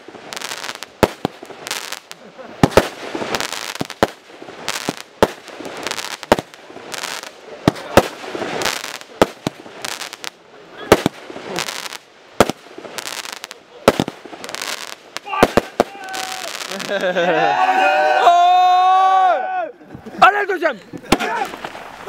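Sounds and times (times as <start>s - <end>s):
fireworks bangs: 0.0s - 17.2s, 21.0s - 22.0s
fireworks crackle and hiss: 0.0s - 17.2s, 21.0s - 22.0s.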